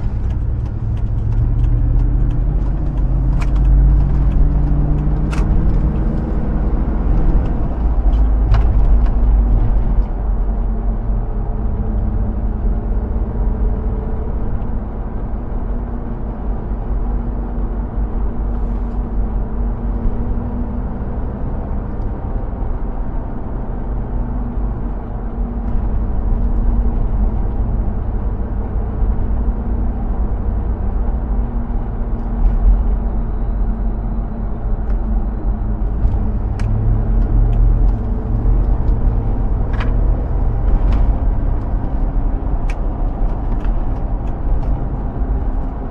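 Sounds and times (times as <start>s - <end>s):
engine and road rumble: 0.0s - 45.9s.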